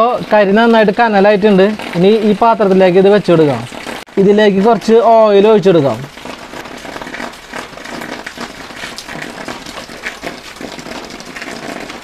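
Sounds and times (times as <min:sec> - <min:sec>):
oil sizzling on hot charcoal: 0:00.0 - 0:12.0.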